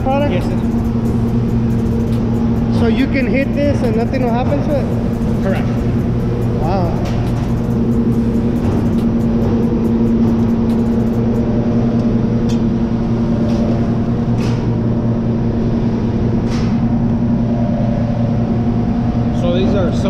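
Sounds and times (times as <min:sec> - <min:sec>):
industrial machinery drone: 0:00.0 - 0:20.0.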